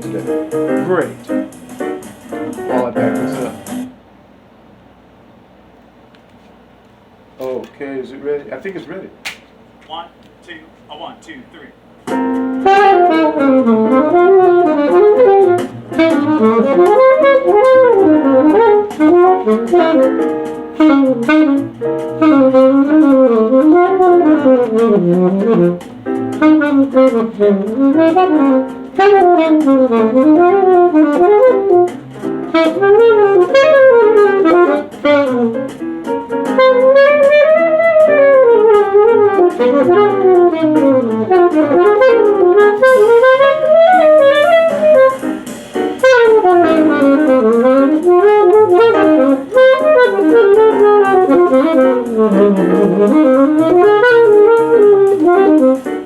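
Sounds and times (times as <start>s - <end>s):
saxophone playing fast melody: 0.0s - 1.6s, 10.9s - 56.0s.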